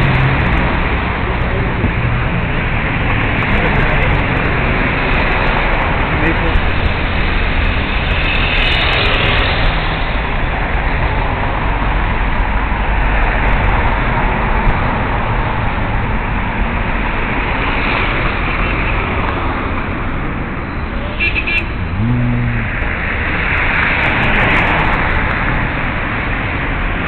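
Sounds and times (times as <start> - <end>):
city street traffic rumble: 0.0 - 27.0.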